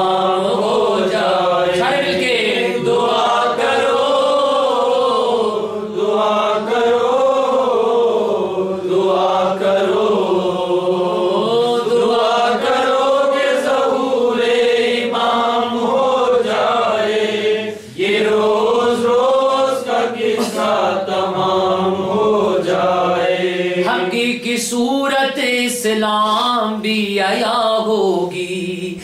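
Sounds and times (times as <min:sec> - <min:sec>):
men chanting a lament: 0:00.0 - 0:25.7.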